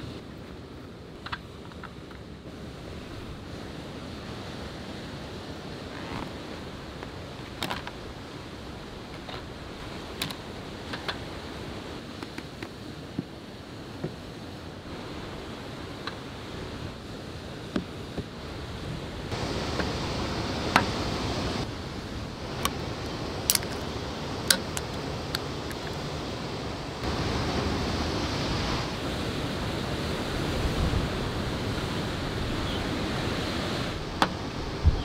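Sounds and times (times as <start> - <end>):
sea surf: 0.0 - 35.0
wind: 0.0 - 35.0.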